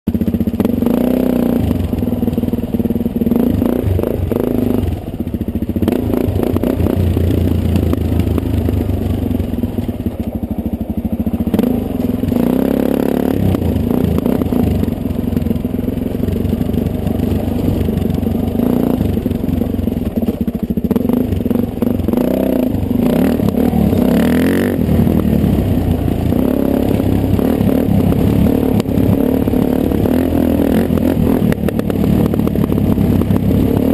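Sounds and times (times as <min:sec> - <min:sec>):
bike knocking and rattling: 0:00.1 - 0:33.9
dirt bike engine revving: 0:00.3 - 0:10.1, 0:11.4 - 0:33.9.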